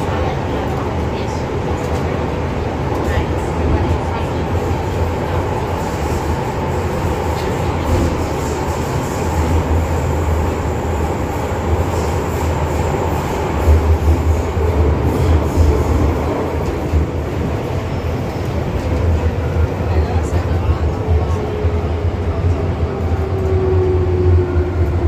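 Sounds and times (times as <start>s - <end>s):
train wheels rumbling in tunnel: 0.0s - 25.0s.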